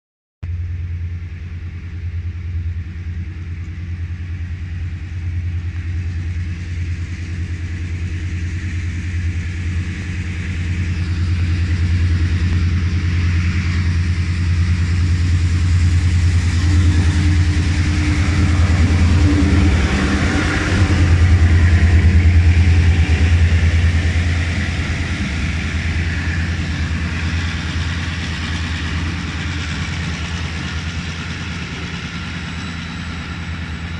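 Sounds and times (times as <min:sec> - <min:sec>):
diesel locomotive engine drone: 0:00.4 - 0:33.9.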